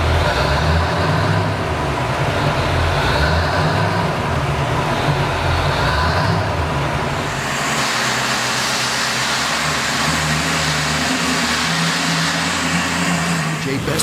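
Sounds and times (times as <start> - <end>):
motor vehicle engine running: 0.0 - 14.0
road noise: 0.0 - 14.0.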